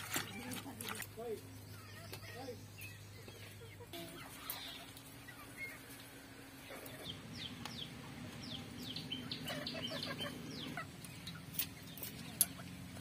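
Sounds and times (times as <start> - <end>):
chickens clucking and chirping: 0.1 - 13.0.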